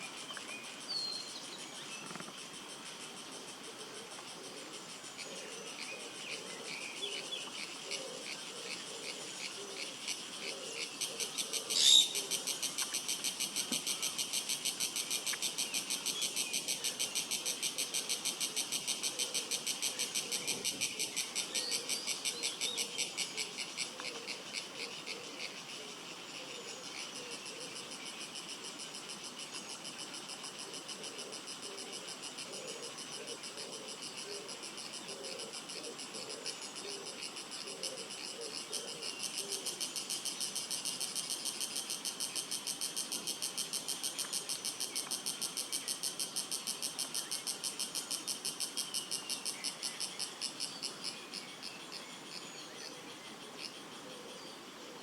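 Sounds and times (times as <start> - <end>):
insects pulsing high trill: 0.0 - 54.0.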